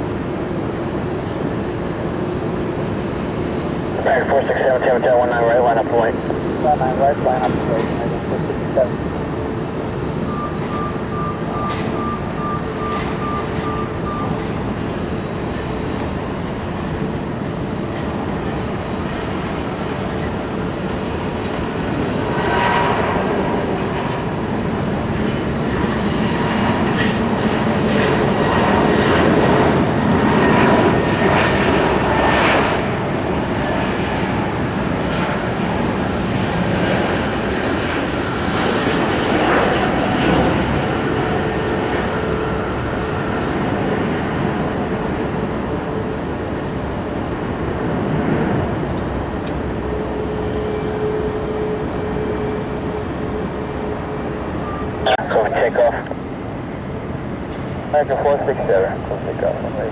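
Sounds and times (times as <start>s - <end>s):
jet engines running with whine: 0.0s - 59.9s.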